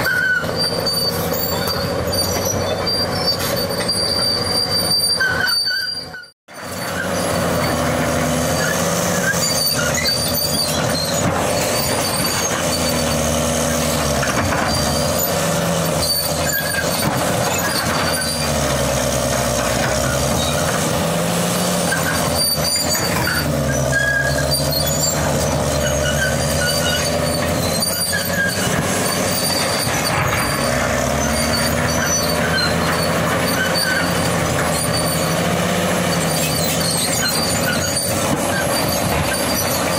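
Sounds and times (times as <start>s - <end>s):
bulldozer diesel engine labouring: 0.0s - 39.9s
steel tracks clanking and squealing: 0.0s - 39.9s
blade grinding through rock: 6.7s - 39.9s.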